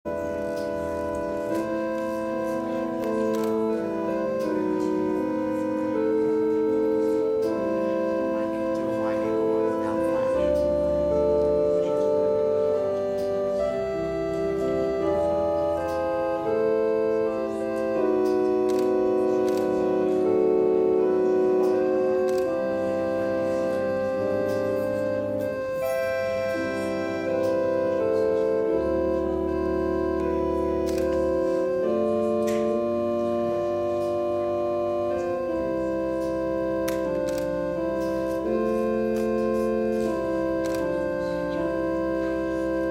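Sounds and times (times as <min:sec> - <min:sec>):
organ playing held chords: 0:00.0 - 0:42.9.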